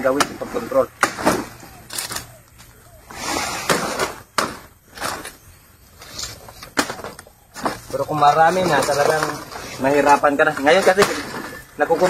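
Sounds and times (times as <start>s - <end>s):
leaves and stalks rustling: 0.0s - 12.0s.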